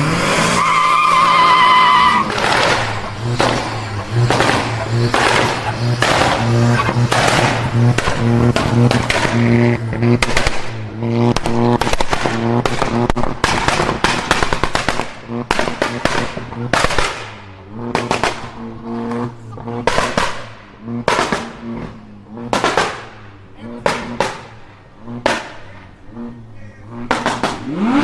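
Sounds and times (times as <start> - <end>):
car engine at steady revs: 0.0 - 28.0
exhaust popping and banging: 0.0 - 28.0.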